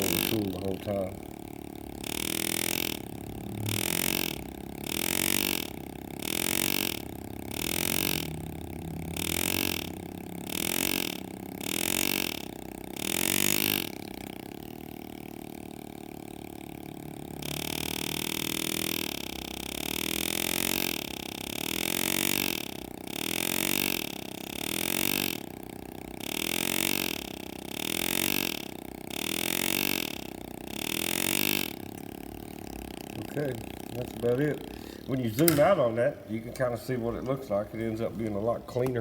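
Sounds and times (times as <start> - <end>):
pneumatic air graver buzzing: 0.0 - 39.0.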